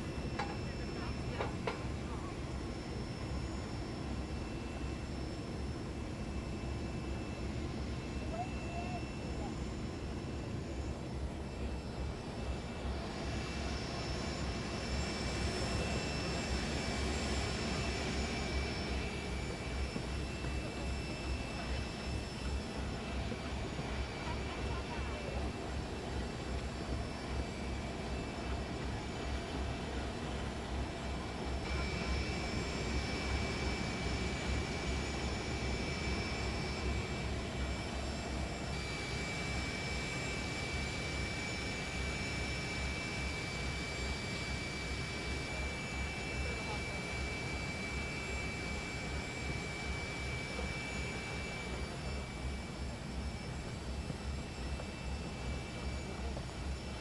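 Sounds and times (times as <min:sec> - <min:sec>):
high engine whine: 0:00.0 - 0:57.0
jet engines running: 0:00.0 - 0:57.0.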